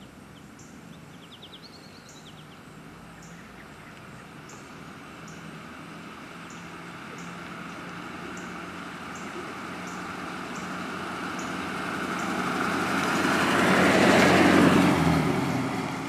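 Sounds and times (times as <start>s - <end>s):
car engine passing: 2.2s - 16.0s.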